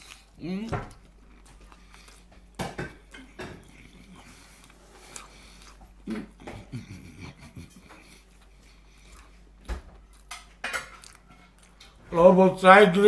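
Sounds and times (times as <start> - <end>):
man chewing with mouth noises: 0.0 - 12.3.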